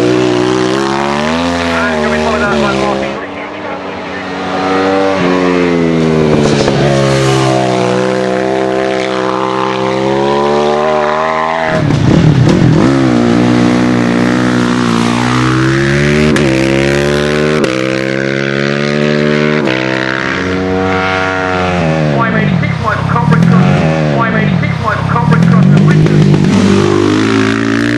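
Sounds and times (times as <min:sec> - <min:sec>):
racing motorcycle engines revving: 0:00.0 - 0:27.9.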